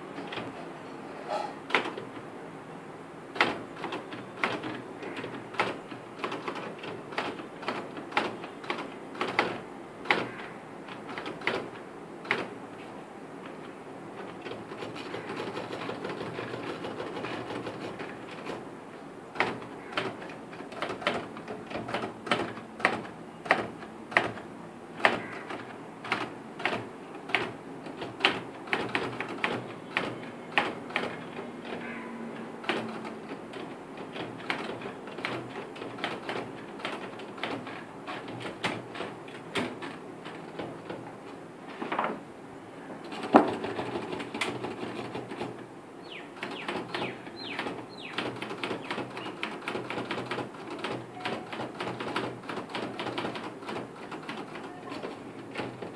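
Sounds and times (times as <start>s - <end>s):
typewriter keys striking: 1.7s - 2.2s, 3.3s - 12.6s, 14.2s - 18.6s, 19.3s - 31.9s, 32.6s - 41.3s, 43.0s - 45.6s, 46.4s - 55.9s.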